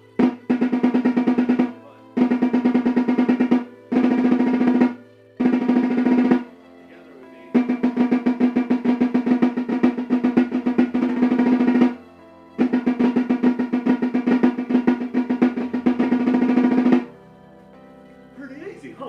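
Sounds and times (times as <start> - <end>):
snare drum rolls: 0.2 - 6.5, 7.5 - 12.0, 12.6 - 17.1.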